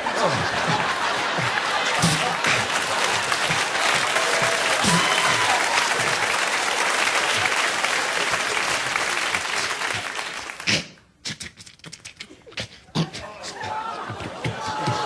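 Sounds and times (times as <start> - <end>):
audience applauding: 0.0 - 10.7, 13.6 - 15.0.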